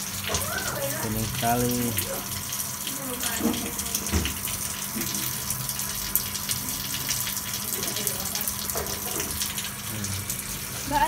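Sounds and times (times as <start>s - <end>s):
water pouring into pond: 0.0s - 11.0s.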